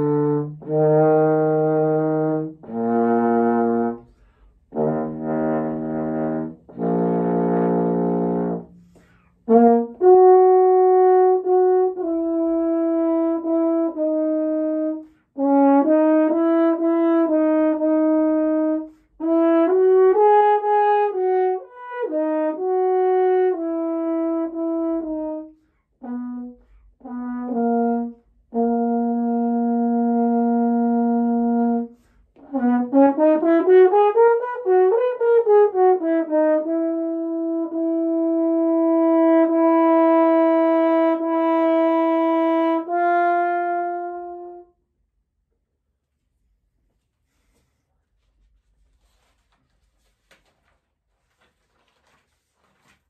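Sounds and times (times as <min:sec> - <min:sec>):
french horn playing: 0:00.0 - 0:44.8.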